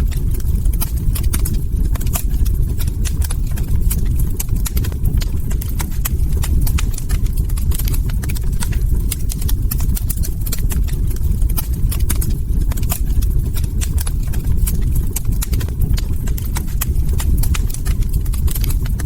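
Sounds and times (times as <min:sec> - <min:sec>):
log fire crackling: 0:00.0 - 0:19.0
low rumble of burning flames: 0:00.0 - 0:19.0.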